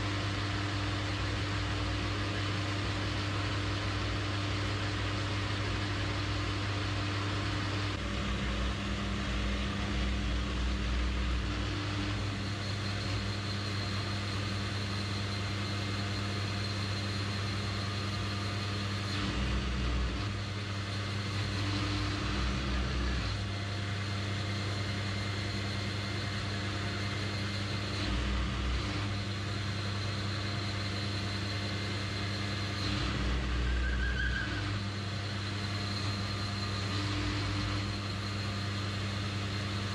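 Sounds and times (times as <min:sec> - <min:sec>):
lathe motor hum: 0:00.0 - 0:39.9
thin high whine: 0:00.0 - 0:39.9.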